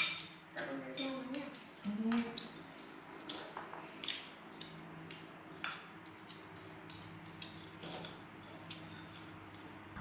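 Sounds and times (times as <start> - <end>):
utensils clinking on ceramic bowls: 0.0 - 4.0, 5.5 - 9.8.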